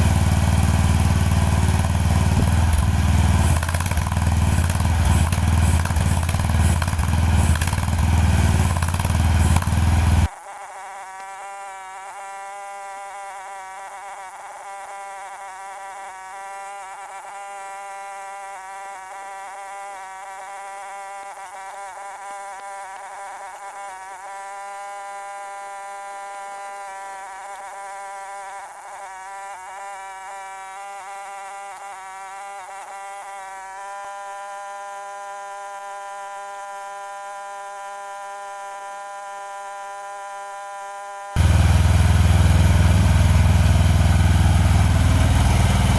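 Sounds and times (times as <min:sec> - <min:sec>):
electric motor buzz: 0:00.0 - 0:45.9
power drill running: 0:00.0 - 0:45.9.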